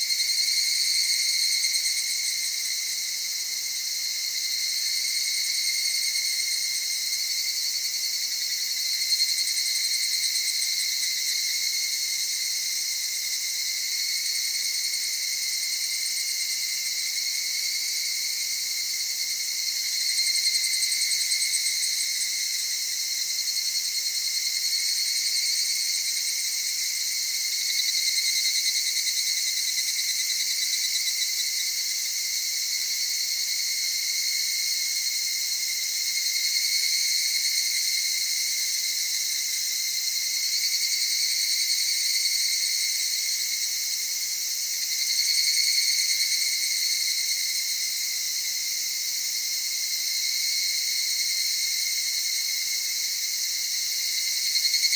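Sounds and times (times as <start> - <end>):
cicadas trilling: 0.0 - 54.9.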